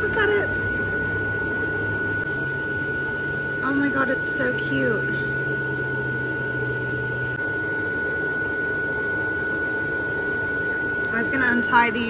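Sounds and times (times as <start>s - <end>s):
electric blower fan whirring: 0.0s - 12.0s
high whine: 0.0s - 12.0s
low hum: 0.0s - 12.0s.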